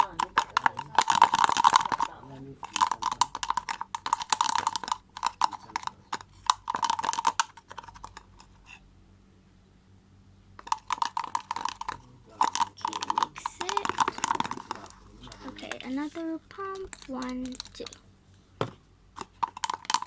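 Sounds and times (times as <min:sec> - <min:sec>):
slime being stirred: 0:00.0 - 0:08.8, 0:10.6 - 0:18.6, 0:19.2 - 0:20.0.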